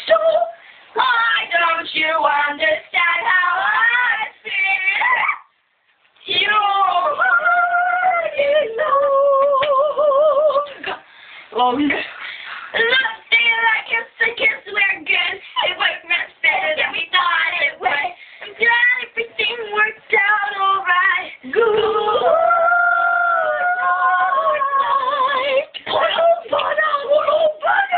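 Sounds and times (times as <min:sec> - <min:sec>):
young woman singing operatically: 0:00.0 - 0:05.3, 0:06.2 - 0:11.0, 0:12.7 - 0:27.9.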